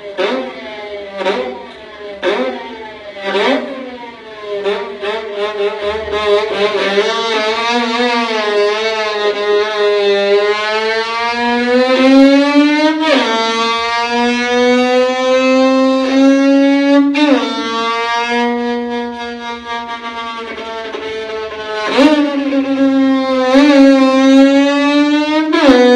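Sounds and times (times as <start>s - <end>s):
violin bowing rising pitch: 1.2s - 11.0s, 14.2s - 25.9s.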